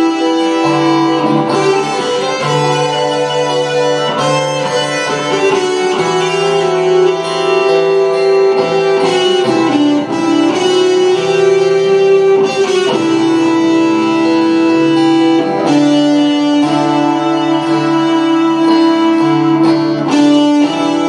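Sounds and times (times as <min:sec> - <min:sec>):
acoustic guitar accompaniment: 0:00.0 - 0:21.0
electric guitar melody: 0:00.0 - 0:21.0.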